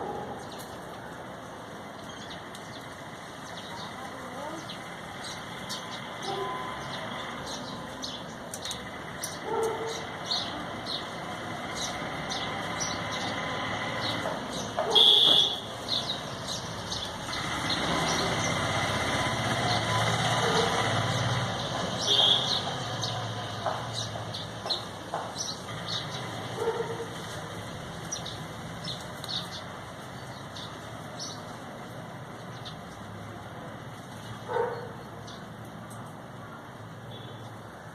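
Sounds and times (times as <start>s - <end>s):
small birds chirping: 0.0s - 37.9s
traffic rumble: 0.0s - 37.9s.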